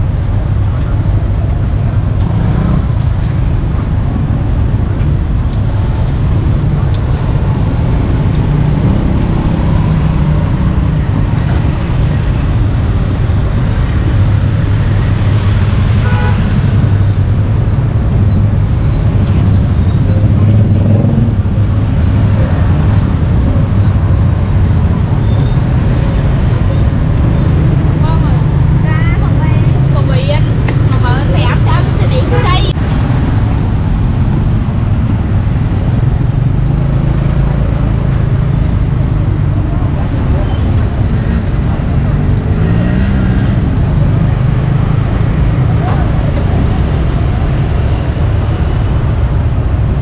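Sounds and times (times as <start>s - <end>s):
street traffic engine rumble: 0.0s - 50.0s.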